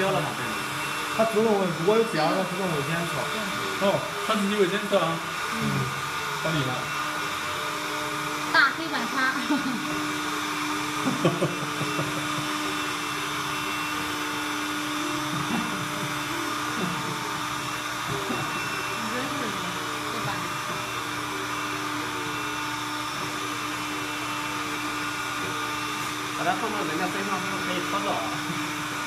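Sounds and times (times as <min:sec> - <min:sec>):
robot suction fan whirring: 0:00.0 - 0:29.0.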